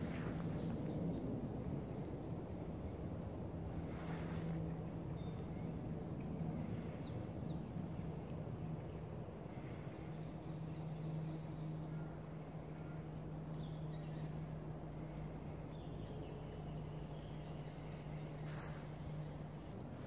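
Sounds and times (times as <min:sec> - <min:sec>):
distant small birds chirping: 0:00.0 - 0:20.0
low hum and rumble: 0:00.0 - 0:20.0.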